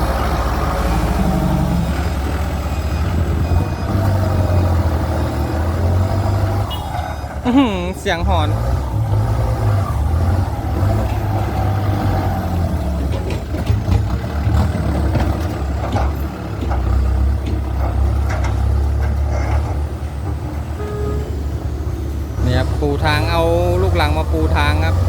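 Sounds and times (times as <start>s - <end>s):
tractor diesel engine howling: 0.0s - 25.0s.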